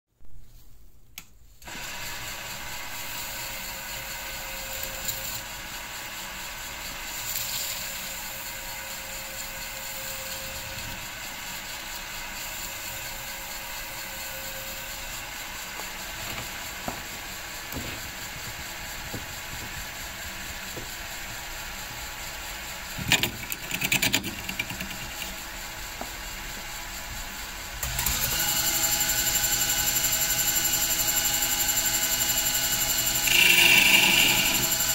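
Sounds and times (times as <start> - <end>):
metal lathe motor whining: 1.7 - 34.9.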